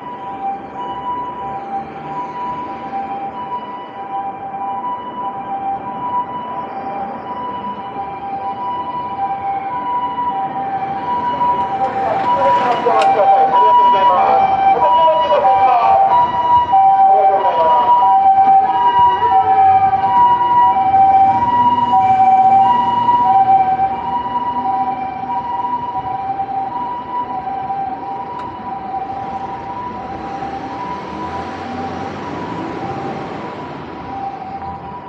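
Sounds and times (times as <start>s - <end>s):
passing traffic rumble: 0.0s - 35.0s
two-tone ambulance siren: 0.0s - 35.0s.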